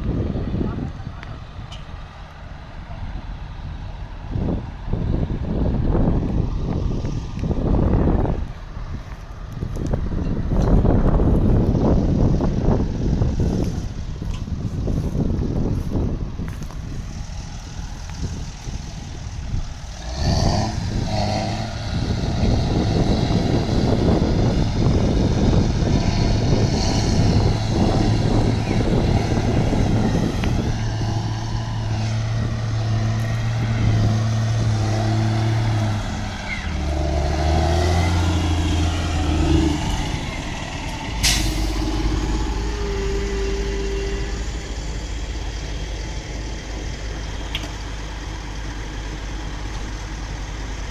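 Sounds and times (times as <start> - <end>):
heavy tractor diesel engines: 0.0 - 50.9.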